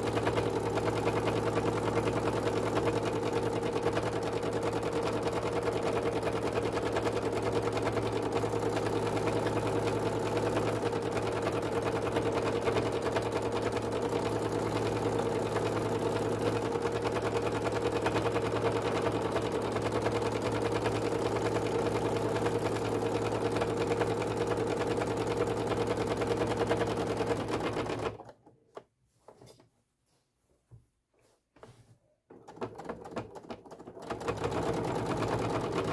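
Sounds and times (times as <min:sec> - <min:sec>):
sewing machine running: 0:00.0 - 0:28.4, 0:32.3 - 0:35.9.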